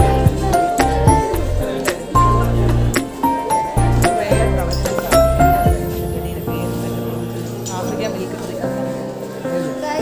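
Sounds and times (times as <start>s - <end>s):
background music with beat: 0.0s - 8.6s.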